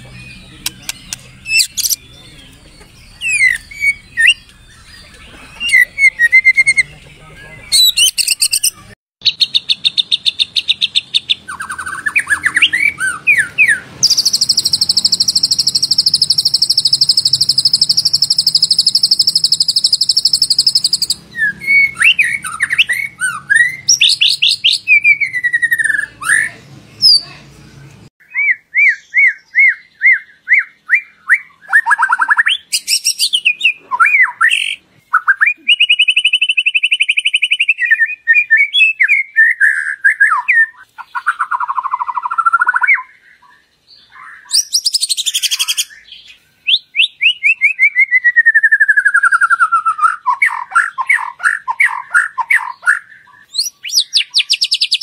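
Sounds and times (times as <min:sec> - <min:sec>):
songbird whistling song: 0:00.0 - 0:55.0.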